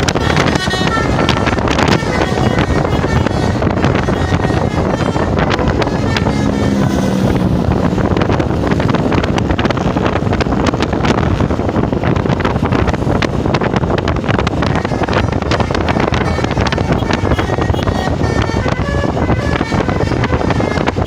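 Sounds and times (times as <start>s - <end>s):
vehicle engines rumbling: 0.0s - 21.0s
wind buffeting microphone: 0.0s - 21.0s.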